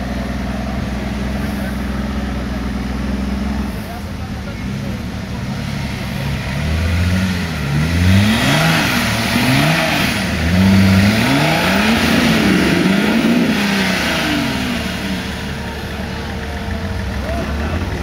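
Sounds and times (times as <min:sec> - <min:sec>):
off-road engine revving: 0:00.0 - 0:18.0.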